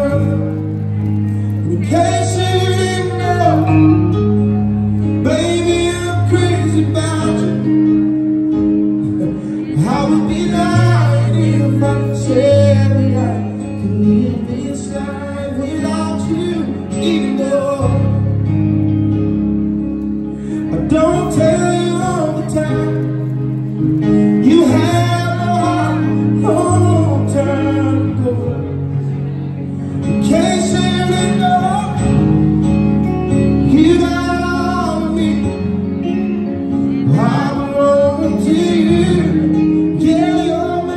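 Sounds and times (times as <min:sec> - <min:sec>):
man singing into microphone: 0:00.0 - 0:08.4, 0:09.0 - 0:18.7, 0:20.5 - 0:40.9
bass notes: 0:00.0 - 0:40.9
guitar: 0:00.0 - 0:40.9
keyboard chords: 0:00.0 - 0:40.9.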